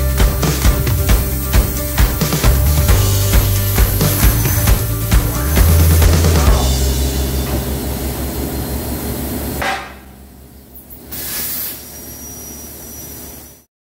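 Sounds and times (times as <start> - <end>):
plasma cutter hum and hiss: 1.2 - 10.1, 10.8 - 13.7.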